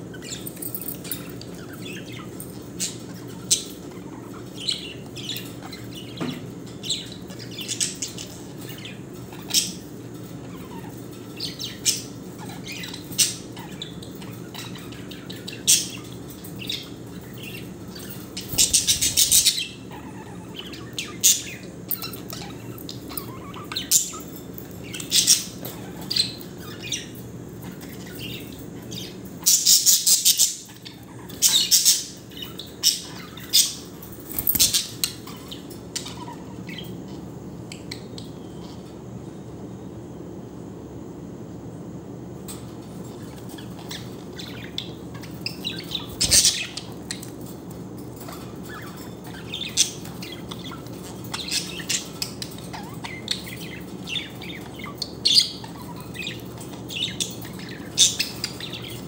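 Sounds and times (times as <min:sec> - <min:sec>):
rapid bird chatter: 0:00.0 - 0:39.3, 0:42.4 - 0:59.0
steady low hum: 0:00.0 - 0:59.0
budgerigars squawking and chirping: 0:00.1 - 0:38.9, 0:42.6 - 0:59.0.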